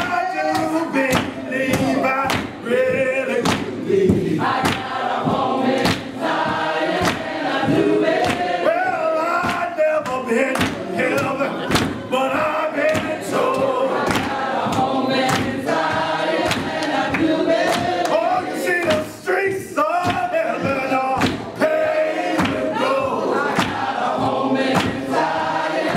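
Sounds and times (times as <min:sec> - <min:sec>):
group gospel singing: 0:00.0 - 0:25.9
sharp percussive hits: 0:00.0 - 0:25.9.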